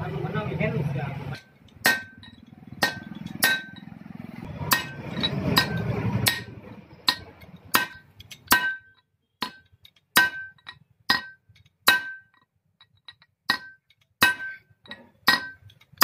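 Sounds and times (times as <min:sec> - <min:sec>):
hammer striking metal punch: 0:01.4 - 0:12.4, 0:13.5 - 0:16.0.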